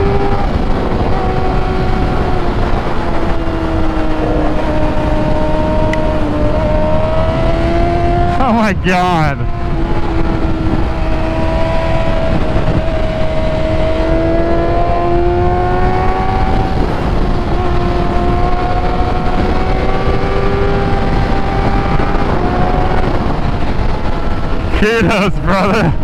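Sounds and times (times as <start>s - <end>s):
engine at high revs: 0.0s - 26.0s
wind rushing: 0.0s - 26.0s.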